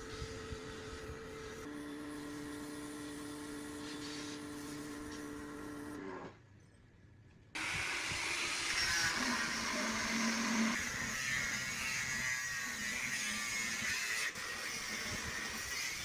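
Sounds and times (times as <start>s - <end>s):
power tool motor whining: 0.0s - 6.3s, 7.6s - 16.0s.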